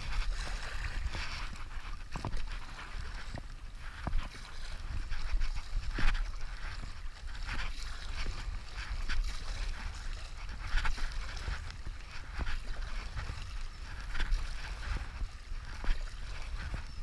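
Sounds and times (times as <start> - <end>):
paddle strokes splashing water: 0.0 - 17.0
wind buffeting microphone: 0.0 - 17.0.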